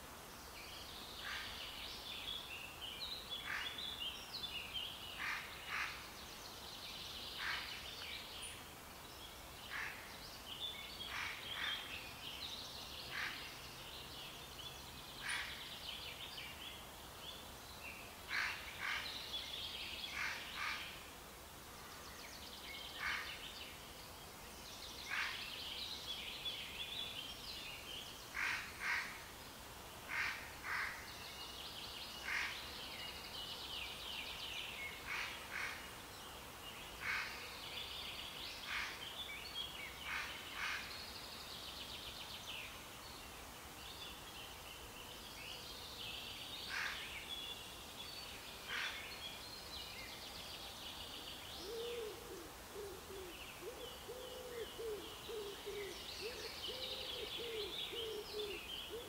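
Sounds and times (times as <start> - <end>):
faint background hiss: 0.0 - 59.0
songbirds chirping: 0.0 - 59.0.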